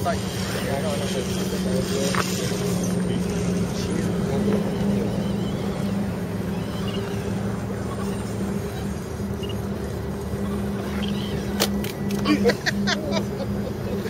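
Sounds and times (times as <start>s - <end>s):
toy truck motor humming: 0.0s - 14.0s.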